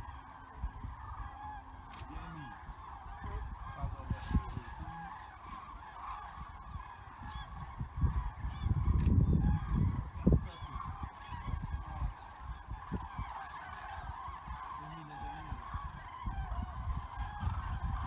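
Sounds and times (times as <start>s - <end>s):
cranes calling in flight: 0.0s - 18.0s.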